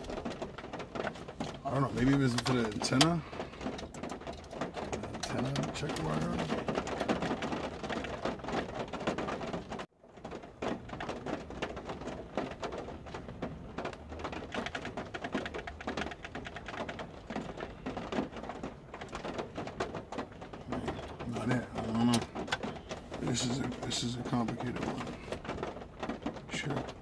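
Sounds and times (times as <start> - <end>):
rain on vehicle roof: 0.0 - 27.0.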